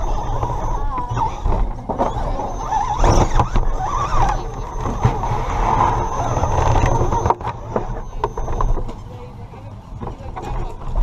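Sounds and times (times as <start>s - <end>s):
thin high whine: 0.0s - 9.5s
electric motor and gears running: 0.0s - 11.0s.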